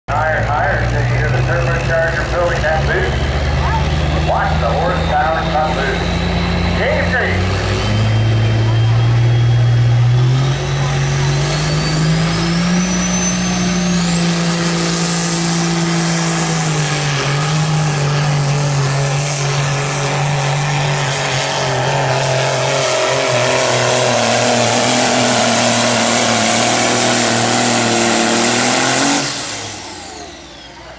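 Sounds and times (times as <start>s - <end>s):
diesel truck engine at full throttle: 0.1s - 30.9s.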